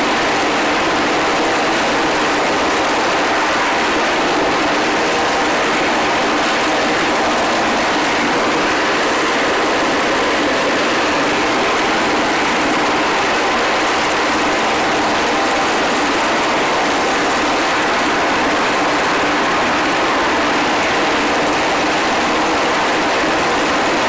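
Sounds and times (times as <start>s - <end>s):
helicopter engines and rotor: 0.0s - 24.0s.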